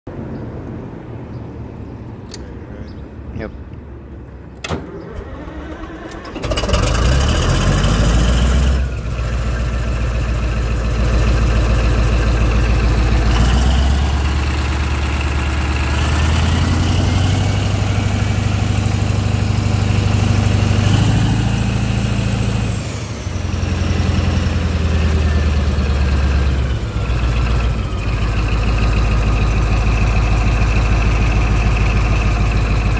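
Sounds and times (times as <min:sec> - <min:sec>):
bulldozer diesel engine running: 0:04.9 - 0:32.9.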